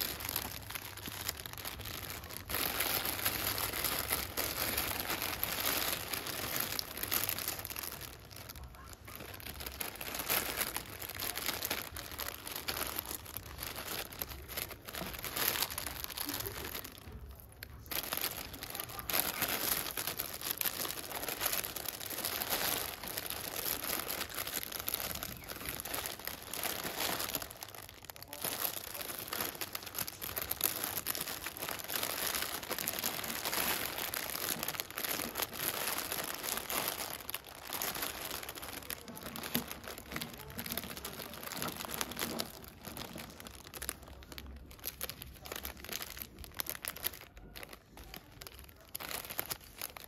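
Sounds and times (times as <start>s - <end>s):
plastic bags crinkling: 0.0s - 50.0s.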